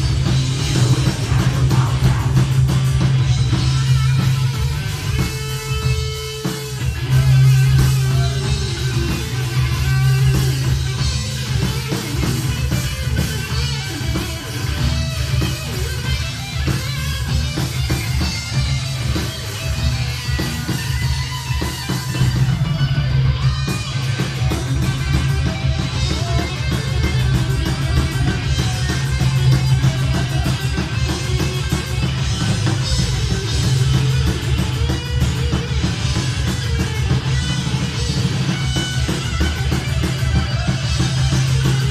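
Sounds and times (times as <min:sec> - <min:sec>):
heavy metal band playing: 0:00.0 - 0:41.9.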